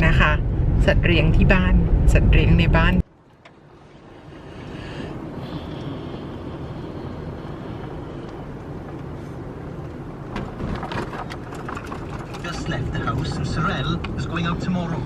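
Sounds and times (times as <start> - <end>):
car rumble: 0.0 - 15.0.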